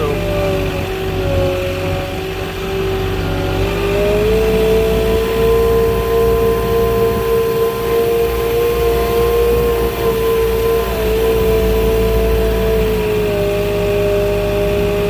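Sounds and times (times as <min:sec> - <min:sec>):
hydraulic high whine: 0:00.0 - 0:15.0
low engine rumble: 0:00.0 - 0:15.0.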